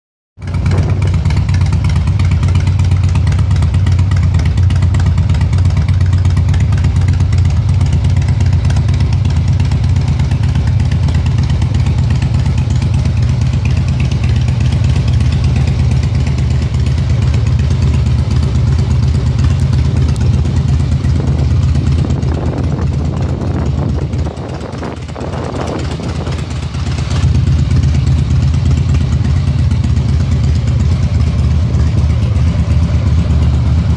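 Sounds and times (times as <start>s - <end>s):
motorcycle engine idling: 0.4s - 33.9s.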